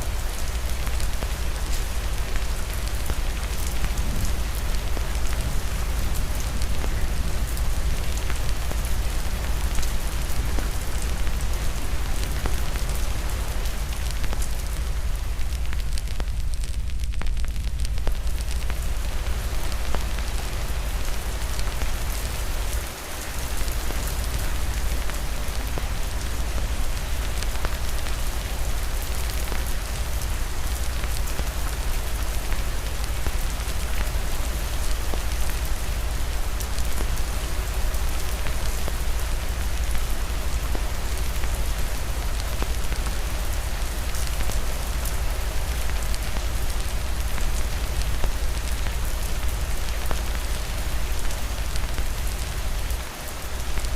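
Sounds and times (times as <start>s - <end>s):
rain on a hard surface: 0.0s - 53.9s.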